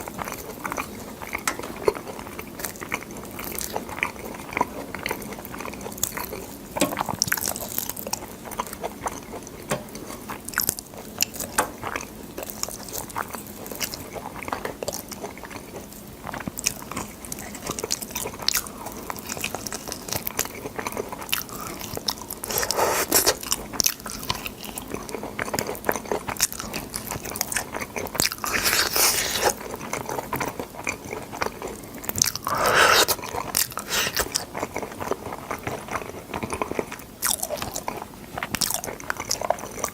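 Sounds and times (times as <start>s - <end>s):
person chewing beans: 0.0s - 39.9s.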